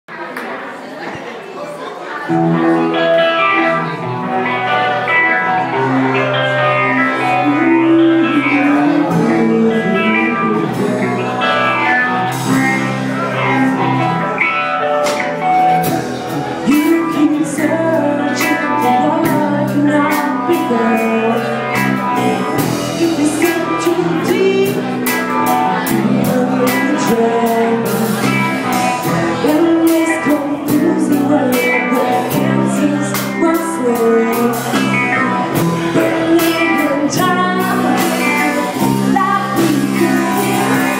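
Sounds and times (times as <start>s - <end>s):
bass guitar: 2.3s - 40.9s
electric guitar: 2.3s - 40.9s
drum kit with cymbal hits: 3.1s - 40.9s.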